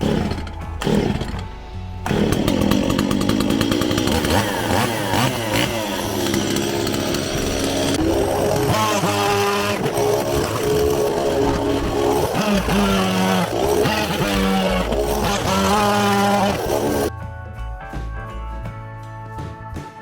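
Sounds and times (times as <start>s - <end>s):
chainsaw revving: 0.0s - 17.1s
background music: 0.0s - 20.0s.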